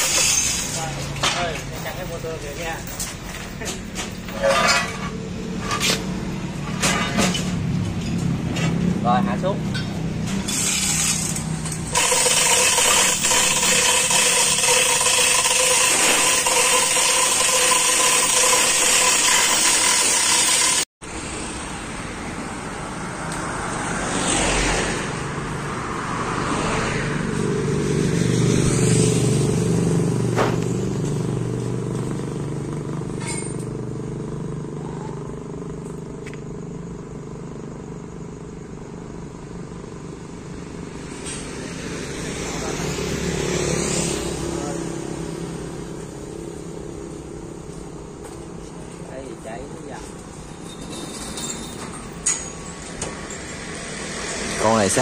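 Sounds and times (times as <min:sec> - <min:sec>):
vehicle engine: 0:00.0 - 0:55.0.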